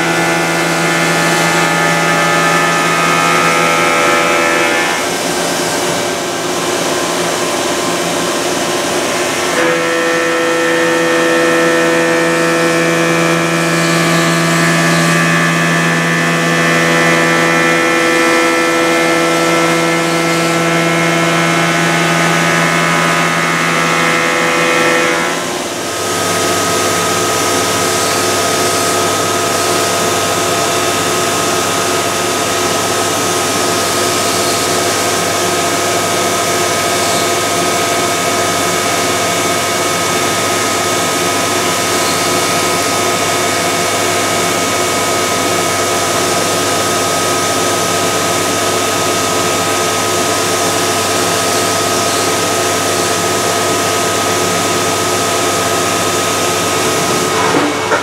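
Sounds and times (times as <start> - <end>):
milling machine spindle whine: 0.0 - 58.0.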